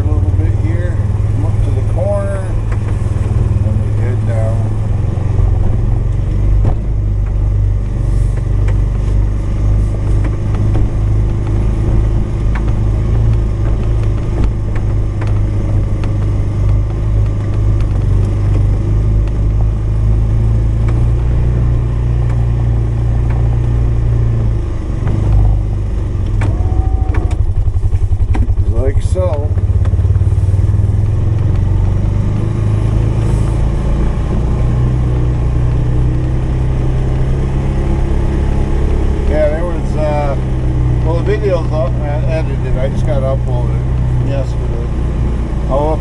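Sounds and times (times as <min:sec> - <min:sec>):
utility vehicle engine running: 0:00.0 - 0:46.0.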